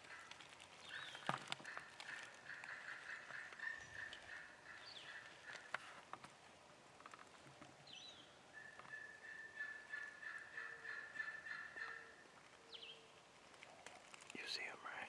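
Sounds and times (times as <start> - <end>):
bird chirp: 0.0 - 6.0, 7.3 - 15.0
turkey calling: 0.0 - 6.0, 8.5 - 14.7.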